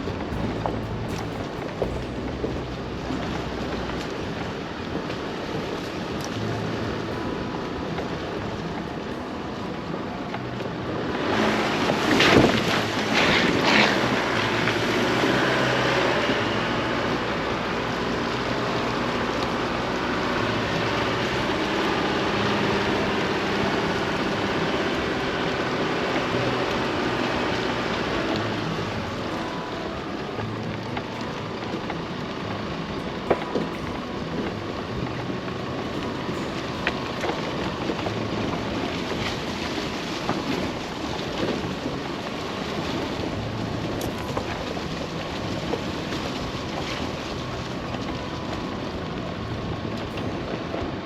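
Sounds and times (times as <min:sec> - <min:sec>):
truck tyre and engine rumble: 0:00.0 - 0:51.0.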